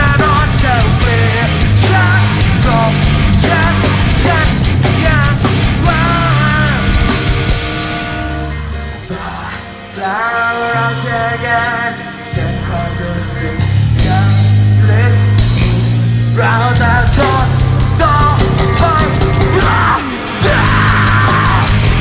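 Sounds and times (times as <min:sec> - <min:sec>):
metal band playing: 0:00.0 - 0:22.0
person singing lead vocal: 0:00.0 - 0:22.0.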